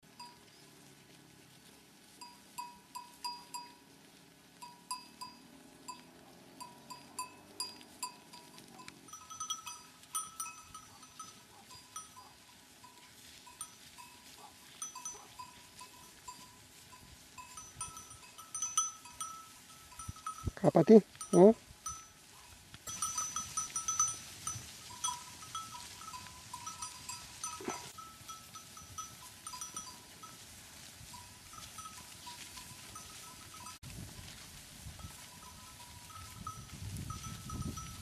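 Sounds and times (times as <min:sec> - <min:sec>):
sheep bells clinking: 0:00.0 - 0:00.8, 0:02.1 - 0:38.0.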